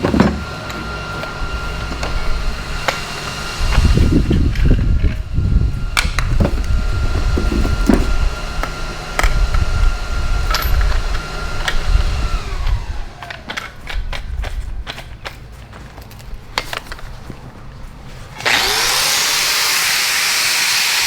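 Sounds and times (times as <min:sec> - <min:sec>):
shop machine whining: 0:00.0 - 0:14.7, 0:18.1 - 0:21.0.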